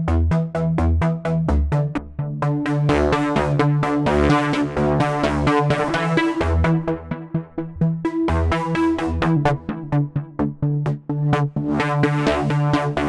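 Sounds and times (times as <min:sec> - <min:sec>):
pulsing synth bass: 0:00.0 - 0:13.0.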